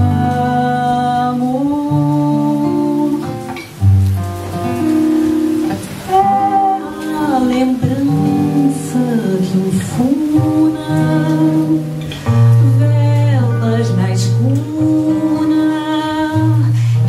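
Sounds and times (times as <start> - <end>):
woman singing: 0.0 - 3.8, 5.2 - 17.0
classical guitar: 0.0 - 17.0.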